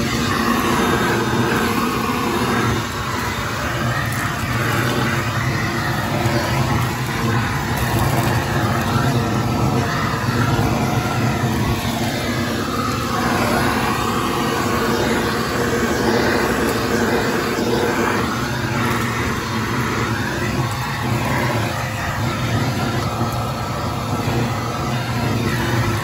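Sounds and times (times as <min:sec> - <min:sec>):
shop vac motor whine: 0:00.0 - 0:26.0.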